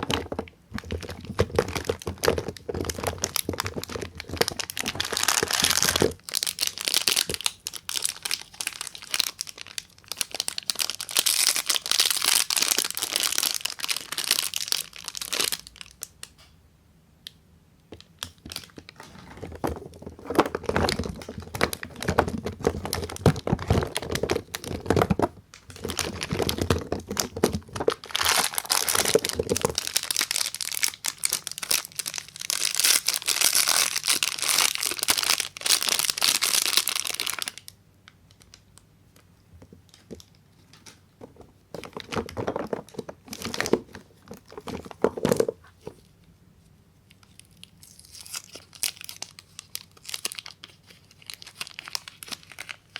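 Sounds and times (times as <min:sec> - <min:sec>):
wrapper crinkling and tearing: 0:00.0 - 0:16.2, 0:18.0 - 0:38.6, 0:41.8 - 0:45.9, 0:47.1 - 0:52.9.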